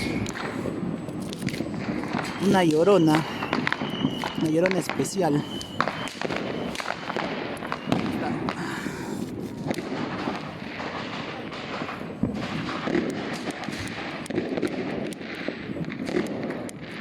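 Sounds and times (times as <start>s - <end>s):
fireworks crackling and popping: 0.0s - 17.0s
strong firework bangs: 0.0s - 17.0s.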